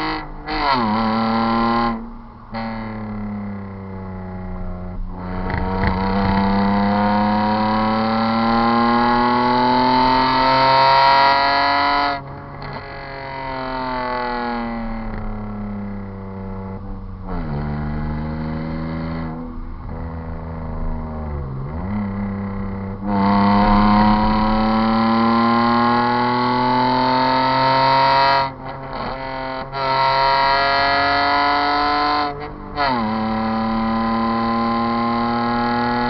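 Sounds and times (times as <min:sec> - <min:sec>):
straight-piped car engine revving: 0:00.0 - 0:03.3, 0:04.9 - 0:15.8, 0:17.2 - 0:36.0.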